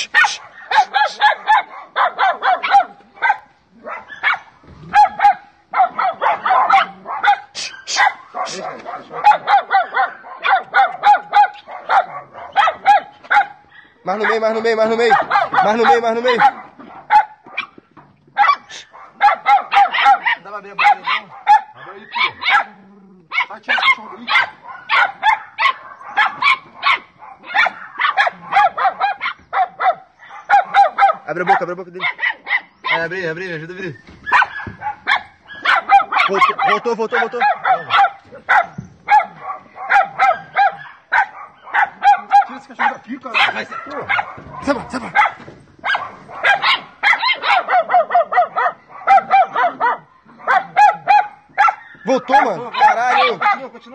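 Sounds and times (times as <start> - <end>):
dog barking: 0.0 - 33.2, 34.2 - 53.9.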